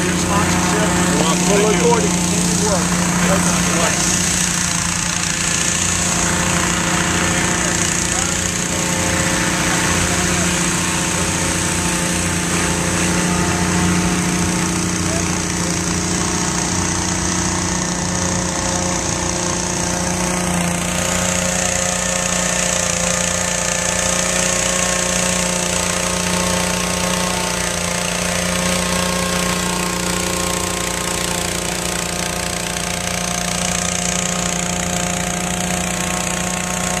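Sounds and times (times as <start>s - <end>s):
engine-driven fans running: 0.0s - 37.0s.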